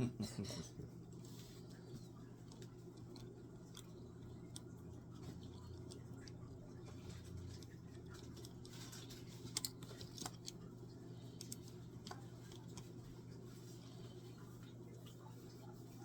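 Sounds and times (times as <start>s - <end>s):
steady low hum: 0.0s - 16.0s
faint clicks and taps: 1.1s - 16.0s.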